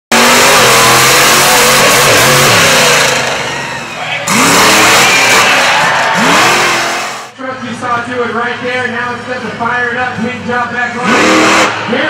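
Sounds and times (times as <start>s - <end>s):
truck engine revving: 0.1s - 7.4s, 8.4s - 12.0s.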